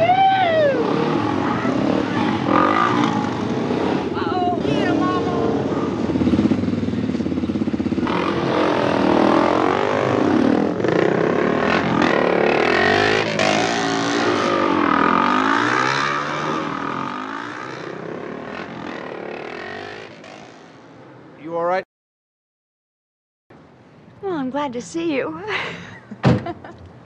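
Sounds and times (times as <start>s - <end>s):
motorcycle engines revving: 0.0s - 21.7s.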